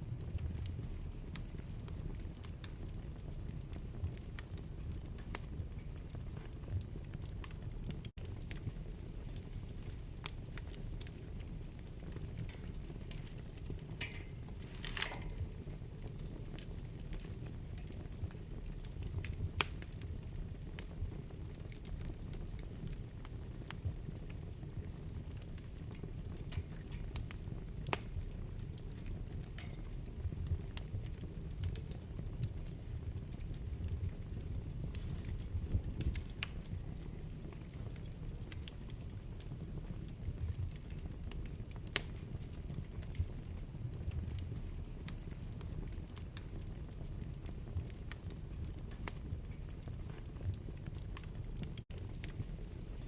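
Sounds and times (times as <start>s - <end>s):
low rumble of fire: 0.0s - 53.0s
wood fire crackling and popping: 0.0s - 53.0s.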